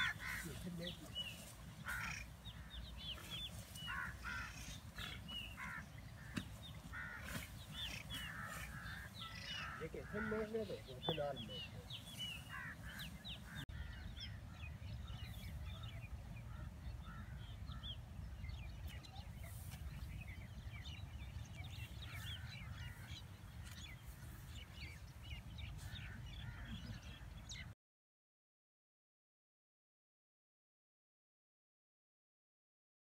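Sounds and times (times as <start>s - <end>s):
birds chirping: 0.0s - 27.8s.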